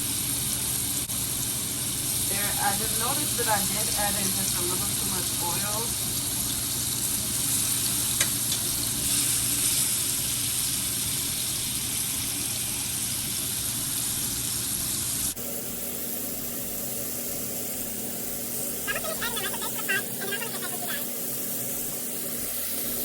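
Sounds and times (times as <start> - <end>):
steak sizzling in oil: 0.0 - 23.0.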